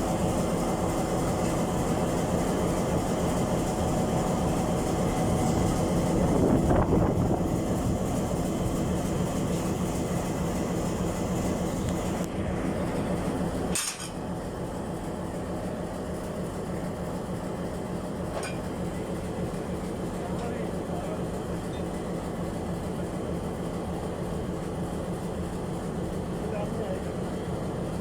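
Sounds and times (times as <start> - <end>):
locomotive engine humming: 0.0 - 28.0.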